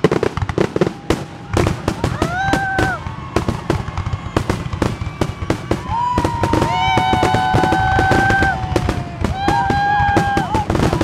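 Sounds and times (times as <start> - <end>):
fireworks bangs and crackles: 0.0 - 11.0
whistling fireworks: 0.0 - 11.0.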